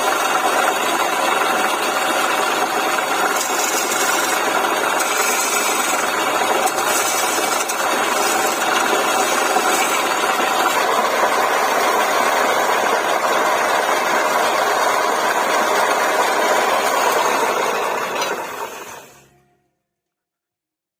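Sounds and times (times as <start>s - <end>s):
wood lathe running: 0.0s - 19.3s.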